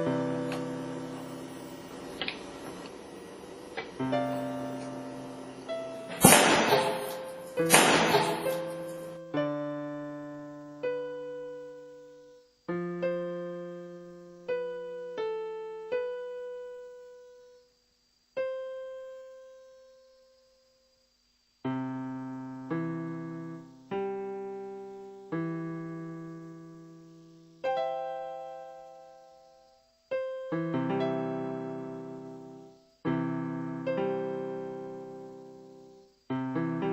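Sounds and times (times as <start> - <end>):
slow solo piano: 0.0 - 17.6, 21.7 - 36.9.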